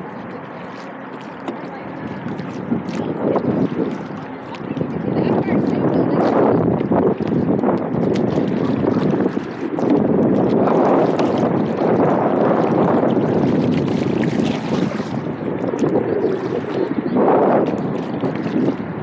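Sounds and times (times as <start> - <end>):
small waves slapping kayak hull: 0.0 - 19.0
wind buffeting microphone: 0.0 - 19.0.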